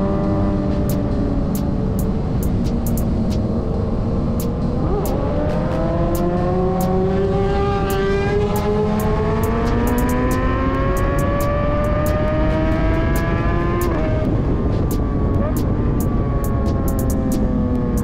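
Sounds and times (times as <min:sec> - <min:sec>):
motorcycle engine revving higher: 0:00.0 - 0:18.0
wind noise: 0:00.0 - 0:18.0.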